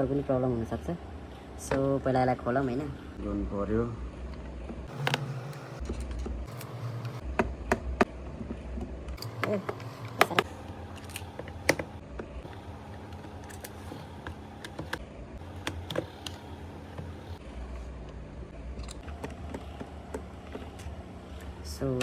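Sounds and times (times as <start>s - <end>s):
steady low hum: 2.8s - 8.1s, 8.8s - 21.8s.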